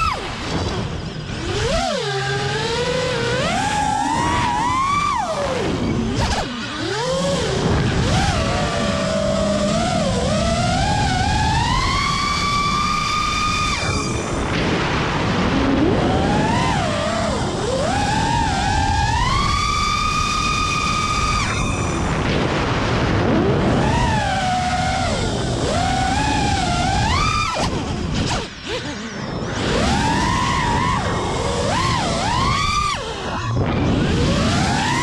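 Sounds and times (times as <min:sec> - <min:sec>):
quadcopter motors whining: 0:00.0 - 0:35.0
wind rushing on microphone: 0:00.0 - 0:35.0.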